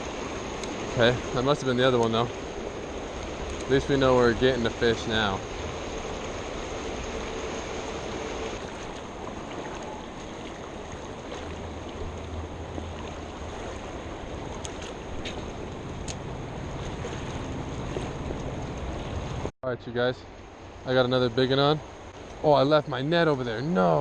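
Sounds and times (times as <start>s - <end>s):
stream water rushing: 0.0s - 19.5s, 20.2s - 24.0s.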